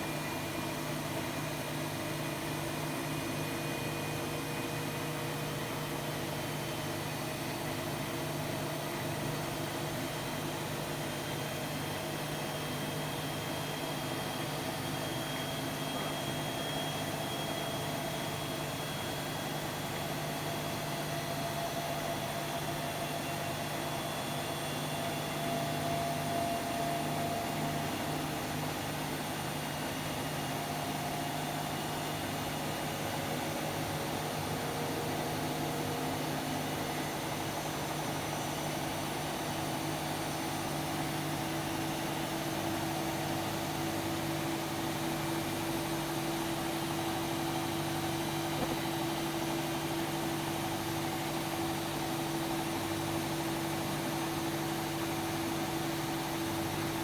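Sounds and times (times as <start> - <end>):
washing machine hum: 0.0 - 57.0.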